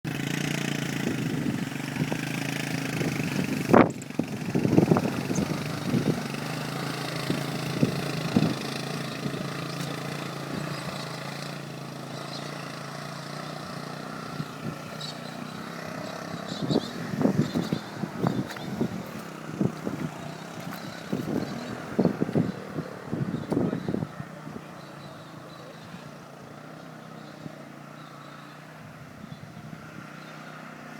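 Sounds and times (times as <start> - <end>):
engine running: 0.0 - 30.9.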